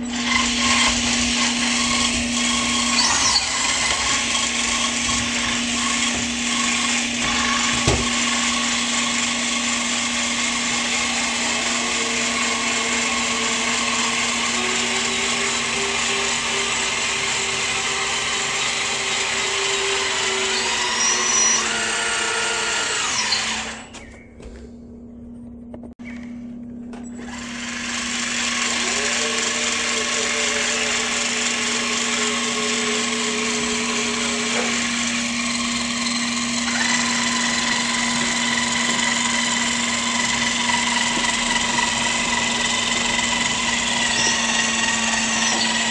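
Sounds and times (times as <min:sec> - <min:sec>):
toy excavator motors whining: 0:00.0 - 0:24.3, 0:27.1 - 0:45.9.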